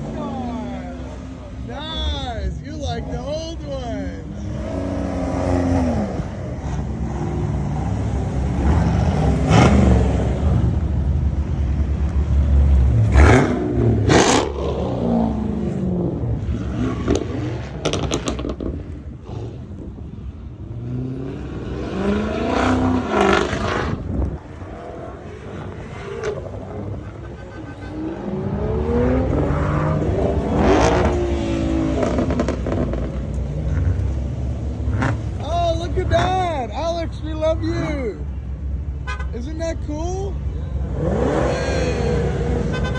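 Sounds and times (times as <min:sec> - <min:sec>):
cars driving past revving: 0:00.0 - 0:42.9.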